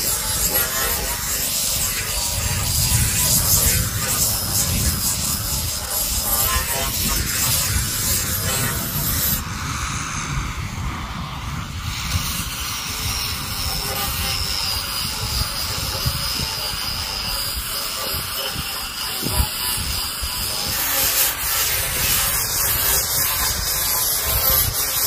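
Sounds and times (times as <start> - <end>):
electric sander on wood: 0.0 - 25.0.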